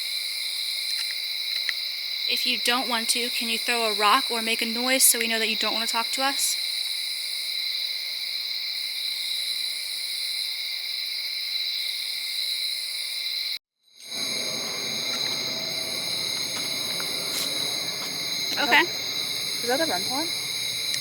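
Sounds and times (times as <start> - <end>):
crickets and insects trilling: 0.0 - 21.0.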